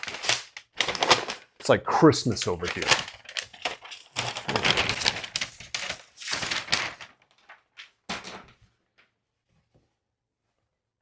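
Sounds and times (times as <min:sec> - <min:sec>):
cardboard and paper rustling: 0:00.0 - 0:09.1.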